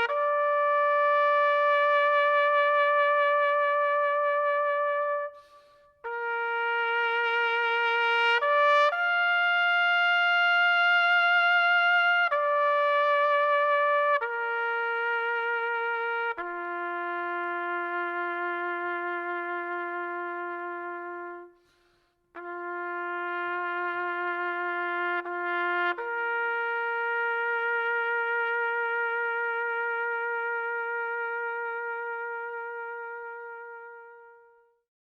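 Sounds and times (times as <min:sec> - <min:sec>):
solo trumpet long held notes: 0:00.0 - 0:34.9.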